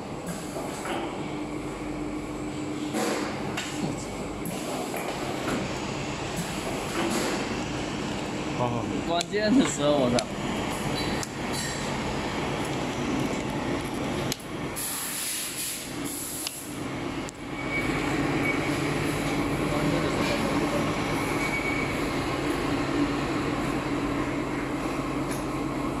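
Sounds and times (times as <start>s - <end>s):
machine steady mechanical hum: 0.0s - 26.0s.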